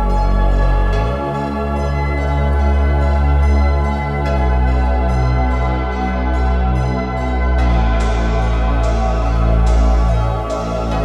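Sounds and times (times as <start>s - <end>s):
sustained chords over deep bass: 0.0s - 11.0s.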